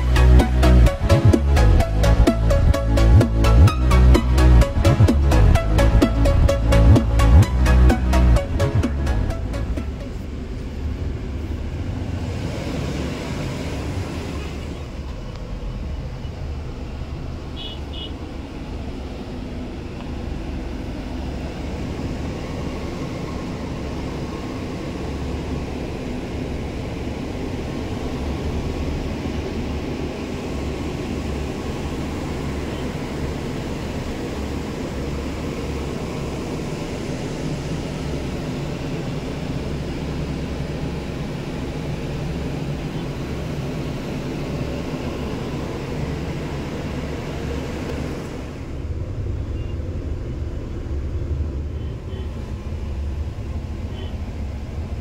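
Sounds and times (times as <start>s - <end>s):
bus engine rumble from inside: 0.0s - 55.0s.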